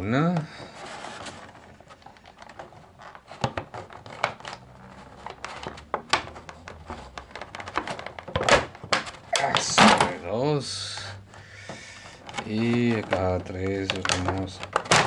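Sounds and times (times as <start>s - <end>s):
plastic clatter: 0.1s - 15.0s.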